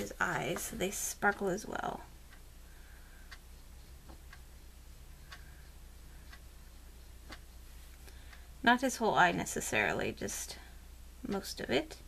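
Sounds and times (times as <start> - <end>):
clock ticking: 0.0 - 10.4, 11.2 - 12.0
low steady hum: 0.0 - 12.0.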